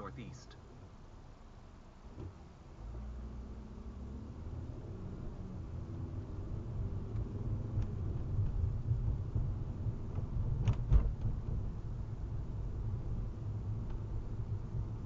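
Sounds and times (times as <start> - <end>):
car engine and tyres rumble: 0.0 - 15.0.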